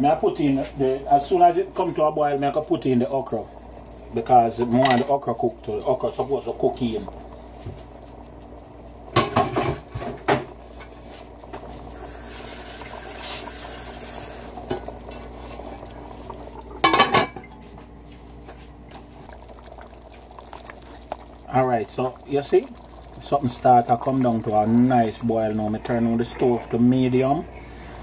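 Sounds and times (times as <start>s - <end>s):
pot simmering: 0.3s - 28.0s.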